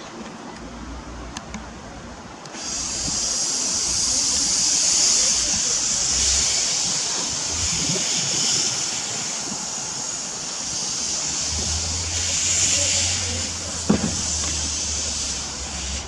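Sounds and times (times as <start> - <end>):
steam locomotive hissing: 2.4 - 16.0.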